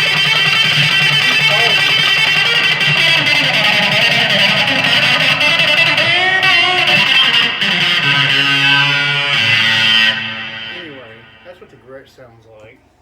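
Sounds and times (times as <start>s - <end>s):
electric guitar through an amp: 0.0s - 11.9s.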